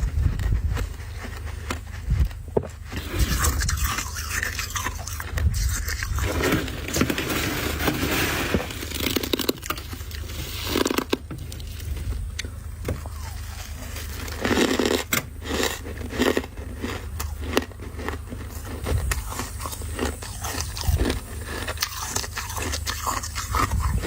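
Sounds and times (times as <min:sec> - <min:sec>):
frost being scraped and crunched: 0:00.0 - 0:12.3, 0:13.0 - 0:24.0.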